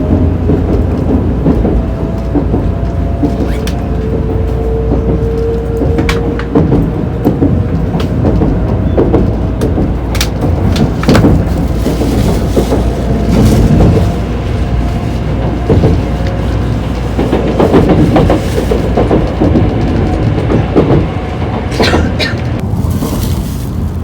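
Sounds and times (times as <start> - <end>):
train rumbling inside car: 0.0 - 24.0.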